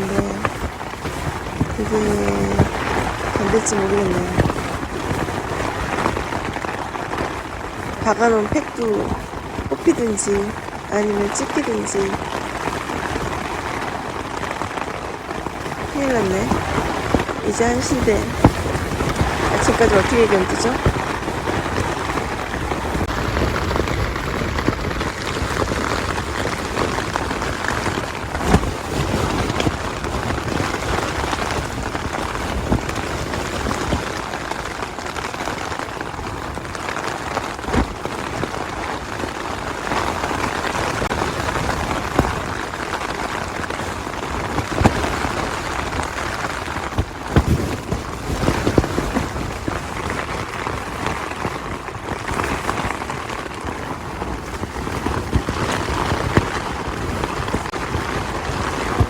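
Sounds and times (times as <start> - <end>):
heavy rain on a tent: 0.0 - 59.0
strong wind: 0.0 - 59.0.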